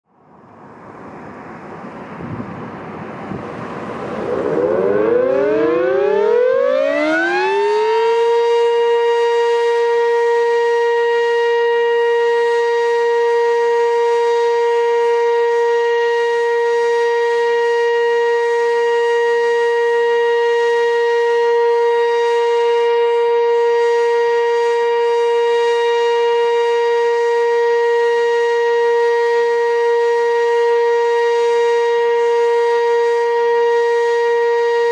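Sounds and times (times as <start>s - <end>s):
warning siren wailing: 0.2s - 34.9s.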